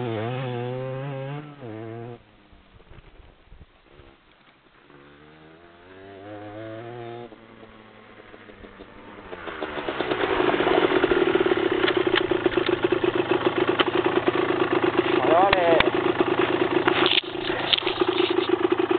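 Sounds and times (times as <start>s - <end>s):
dirt bike engine at high revs: 0.0s - 2.2s, 4.9s - 18.9s
motocross bike engine revving: 0.0s - 2.2s, 4.9s - 18.9s.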